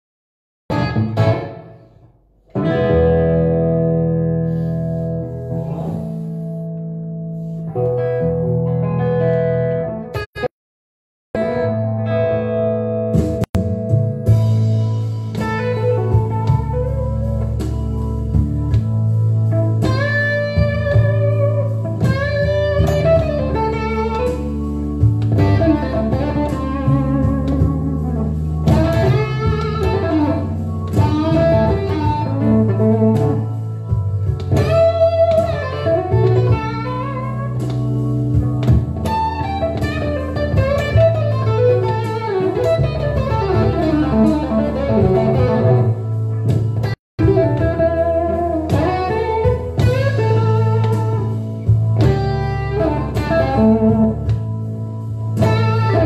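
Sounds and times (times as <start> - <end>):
electric guitar blues lead: 0.7 - 10.5, 11.4 - 56.0
low bass notes: 0.7 - 10.5, 11.4 - 56.0.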